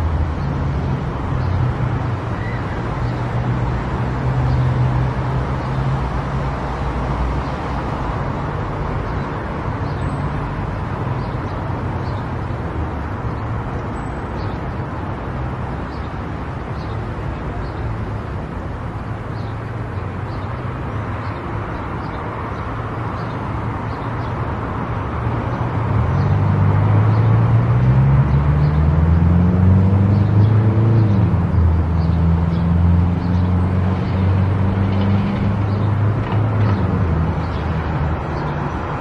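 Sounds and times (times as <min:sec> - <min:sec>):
tyre and road noise: 0:00.0 - 0:39.0.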